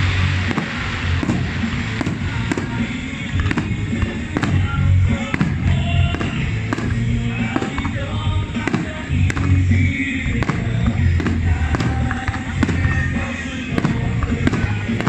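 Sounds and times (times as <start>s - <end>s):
fireworks banging: 0.0s - 15.0s
loud music with heavy bass: 0.0s - 15.0s.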